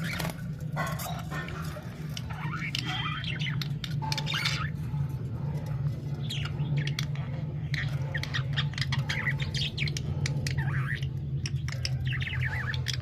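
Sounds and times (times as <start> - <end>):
budgerigars chirping and squawking: 0.0 - 13.0
low hum: 0.0 - 13.0.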